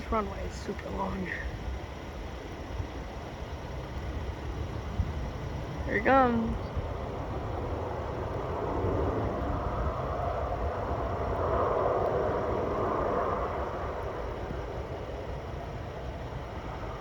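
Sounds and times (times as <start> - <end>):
jet airliner landing: 0.0 - 17.0
wind on microphone: 0.0 - 17.0.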